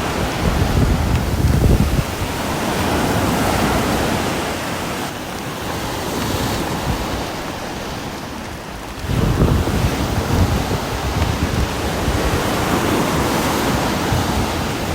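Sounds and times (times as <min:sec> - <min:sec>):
steady rain hiss: 0:00.0 - 0:14.9.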